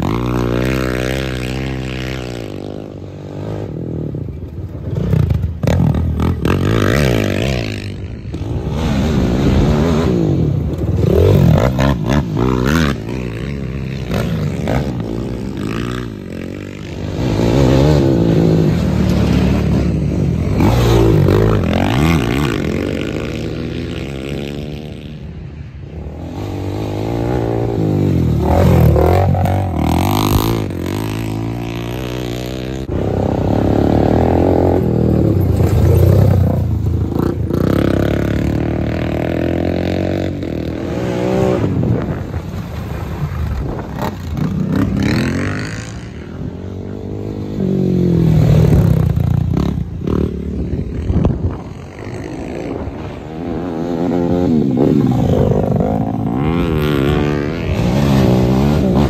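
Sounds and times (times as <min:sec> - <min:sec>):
racing quad engines revving: 0:00.0 - 0:59.0.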